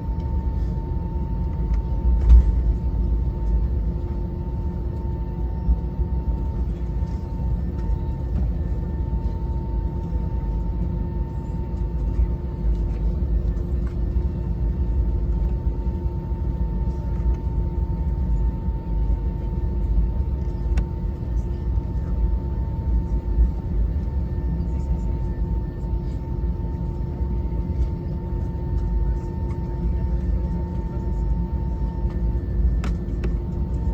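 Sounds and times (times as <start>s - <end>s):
aircraft cabin rumble: 0.0s - 33.9s
jet engine whine: 0.0s - 33.9s.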